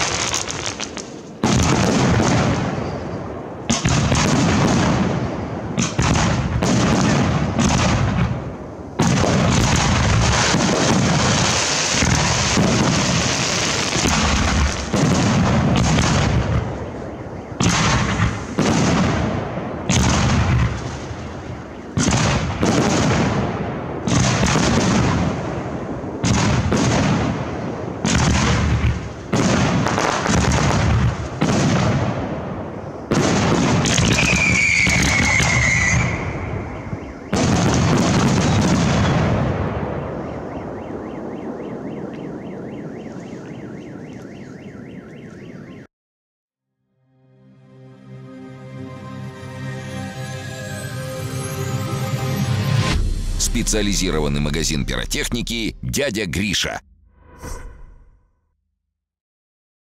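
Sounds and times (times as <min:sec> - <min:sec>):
fireworks launching and bursting: 0:00.0 - 0:43.6, 0:52.1 - 0:58.2.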